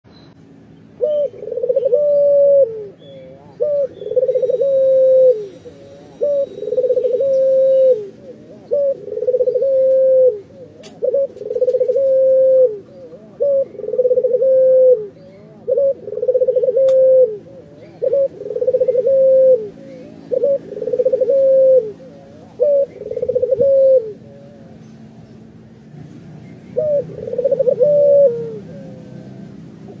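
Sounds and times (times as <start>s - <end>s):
dove cooing: 0.9s - 25.3s, 26.5s - 30.0s.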